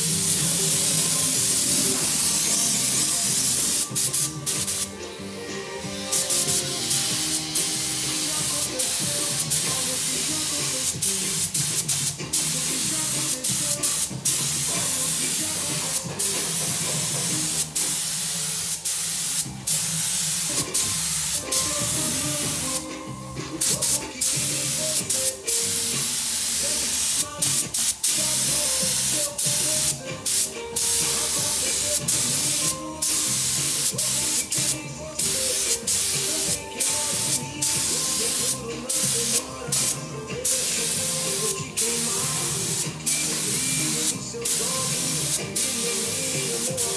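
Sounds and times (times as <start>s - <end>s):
paint spray gun hissing: 0.0s - 5.0s, 6.1s - 46.9s.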